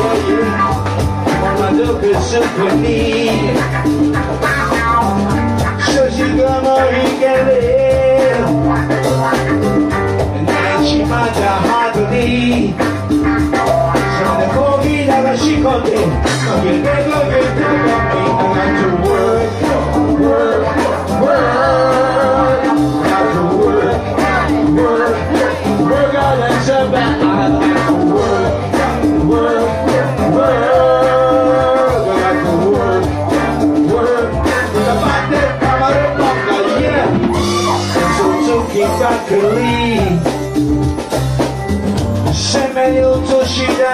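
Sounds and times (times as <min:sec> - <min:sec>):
person singing: 0:00.0 - 0:03.9, 0:04.9 - 0:09.0, 0:10.3 - 0:12.8, 0:13.9 - 0:40.4, 0:42.3 - 0:43.9
live band playing: 0:00.0 - 0:43.9.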